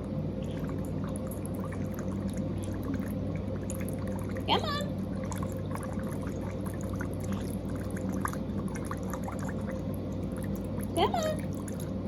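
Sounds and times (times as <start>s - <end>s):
water trickling and gurgling: 0.0s - 12.0s.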